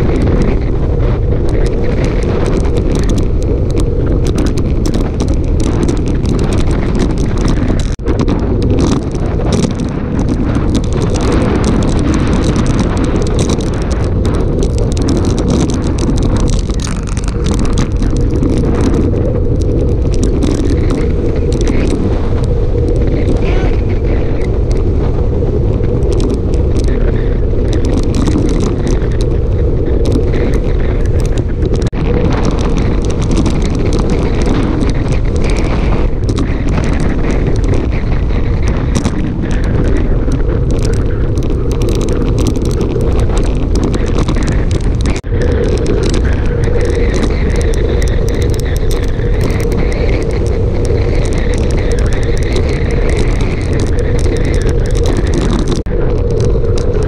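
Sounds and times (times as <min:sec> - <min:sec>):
bicycle tyre noise: 0:00.0 - 0:57.0
wind buffeting microphone: 0:00.0 - 0:57.0.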